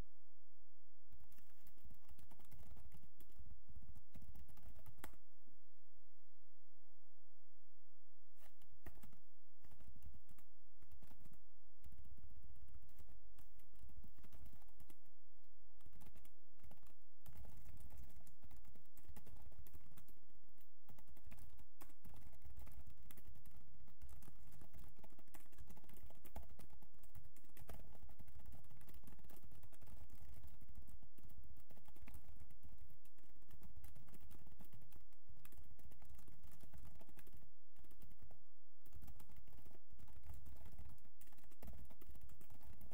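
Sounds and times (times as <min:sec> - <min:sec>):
computer keyboard typing: 0:01.2 - 0:05.2, 0:08.4 - 0:15.0, 0:15.8 - 0:42.9.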